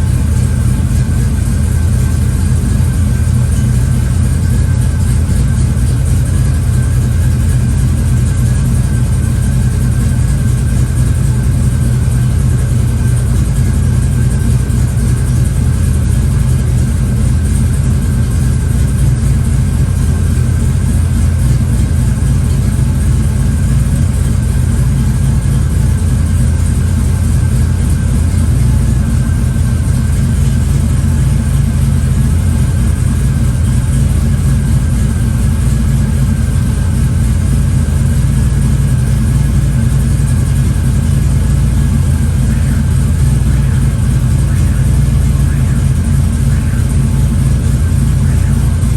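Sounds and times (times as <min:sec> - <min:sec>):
faint steady whine: 0:00.0 - 0:48.9
vehicle engine idling: 0:00.0 - 0:48.9.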